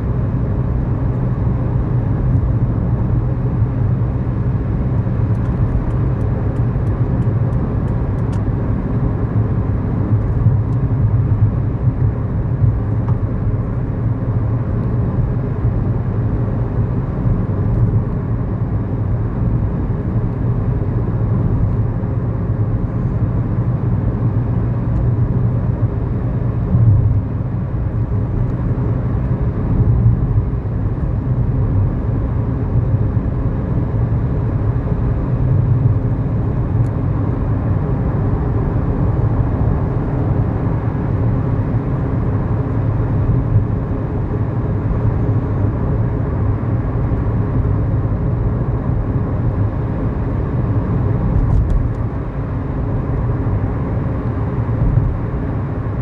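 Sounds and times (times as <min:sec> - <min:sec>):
road noise: 0:00.0 - 0:56.0
car engine running: 0:00.1 - 0:56.0.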